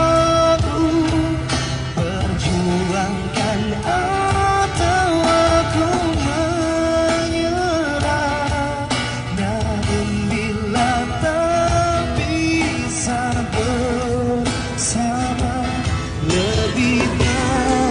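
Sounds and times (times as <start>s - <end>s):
backing music with guitar and beat: 0.0s - 17.9s
man singing: 0.0s - 17.9s.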